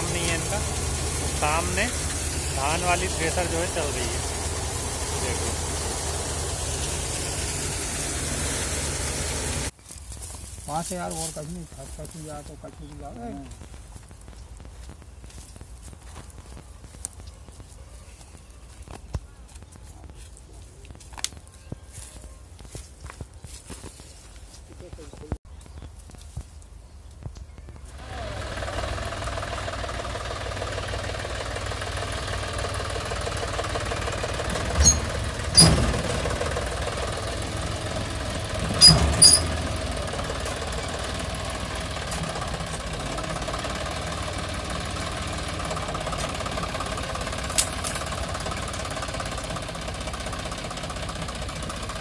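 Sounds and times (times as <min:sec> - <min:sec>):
tractor diesel engine running: 0:00.0 - 0:23.7, 0:24.8 - 0:52.0.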